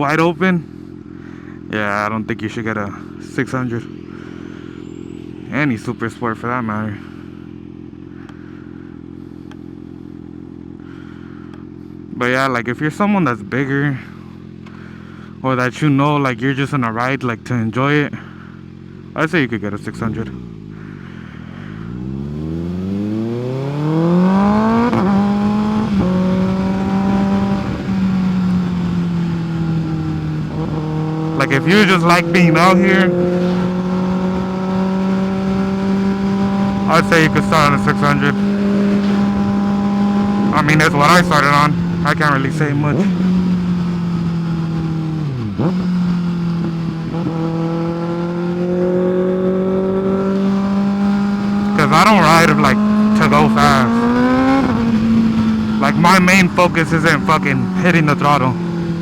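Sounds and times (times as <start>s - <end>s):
motorcycle engine accelerating: 0.0s - 15.5s, 18.1s - 59.0s
quick gear upshifts: 0.0s - 59.0s.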